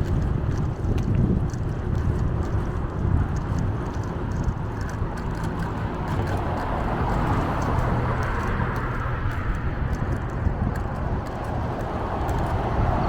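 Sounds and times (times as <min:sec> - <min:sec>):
bicycle tyre noise: 0:00.0 - 0:13.0
wind rumble on microphone: 0:00.0 - 0:13.0.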